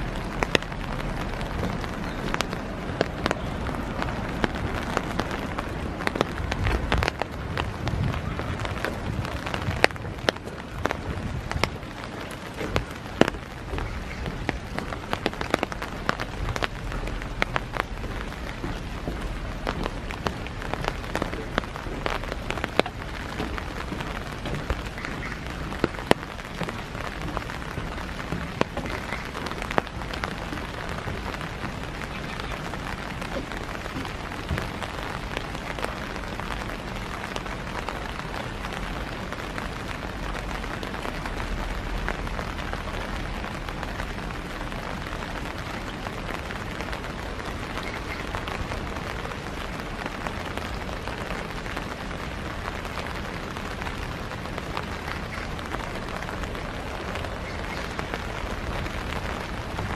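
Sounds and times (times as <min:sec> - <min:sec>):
raindrops tapping: 0:00.0 - 0:59.9
steady rain hiss: 0:00.0 - 0:59.9.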